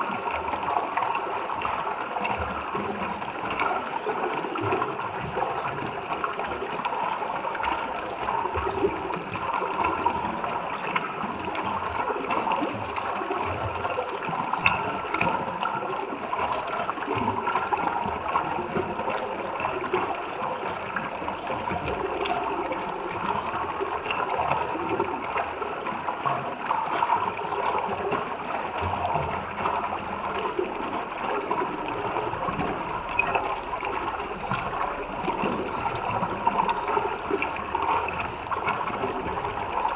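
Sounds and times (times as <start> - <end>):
running water bubbling: 0.0 - 39.9.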